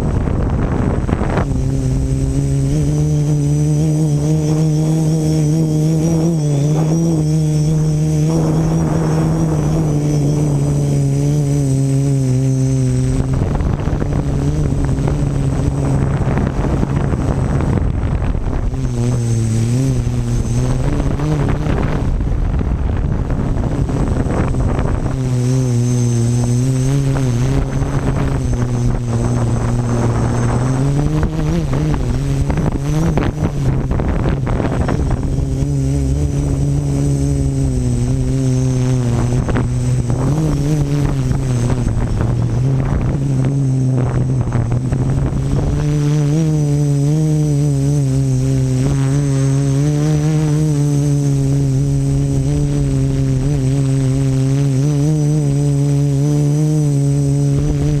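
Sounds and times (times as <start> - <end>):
drone propellers buzzing: 0.0 - 58.0
wind on microphone: 0.0 - 58.0.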